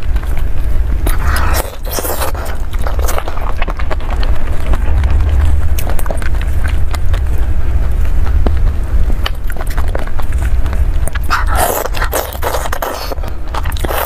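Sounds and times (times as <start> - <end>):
biting and chewing: 0.0 - 14.0
low hum: 0.0 - 14.0.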